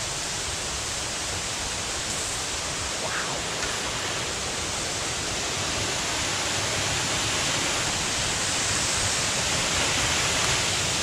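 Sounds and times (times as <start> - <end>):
waterfall rushing hiss: 0.0 - 11.0.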